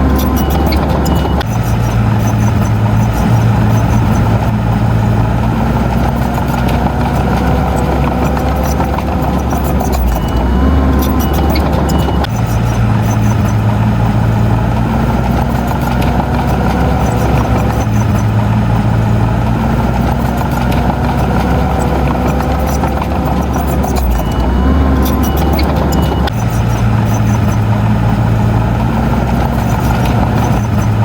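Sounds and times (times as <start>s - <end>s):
diesel earthmoving machinery running: 0.0s - 31.0s
metal clanks and rattles: 0.0s - 31.0s.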